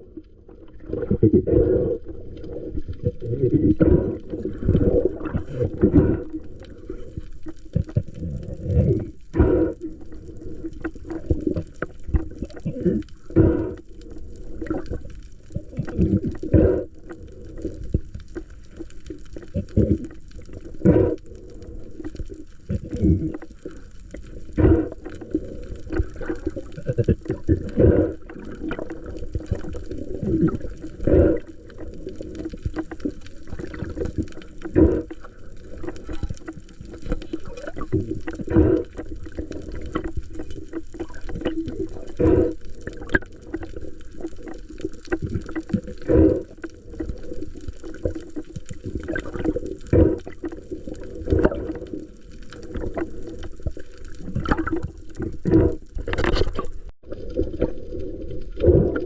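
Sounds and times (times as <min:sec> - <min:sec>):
muffled water sloshing and gurgling: 0:00.0 - 0:59.0.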